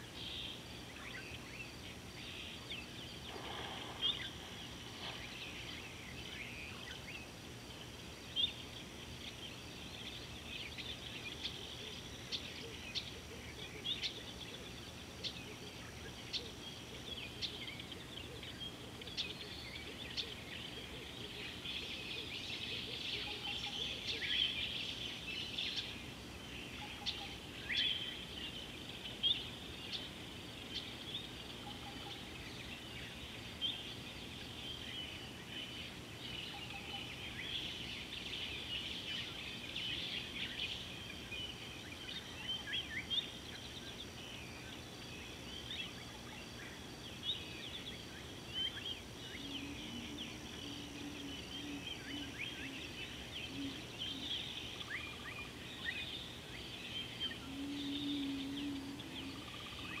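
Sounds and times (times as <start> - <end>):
faint low hum: 0.0 - 60.0
steady high-pitched whine: 0.0 - 60.0
wild birds chirping and trilling: 0.0 - 60.0.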